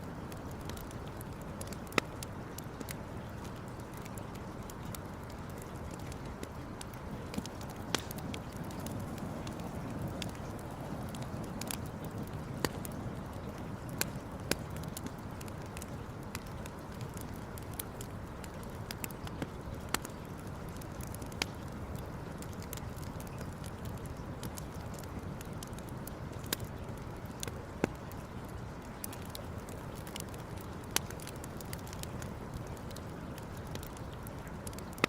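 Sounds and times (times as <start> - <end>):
campfire crackling and popping: 0.0 - 35.0
low rush of fire: 0.0 - 35.0.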